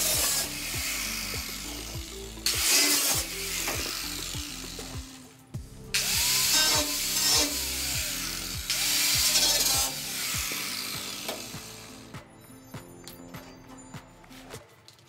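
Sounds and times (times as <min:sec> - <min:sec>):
angle grinder cutting steel: 0:00.0 - 0:12.3
background music with bass rhythm: 0:00.0 - 0:14.7.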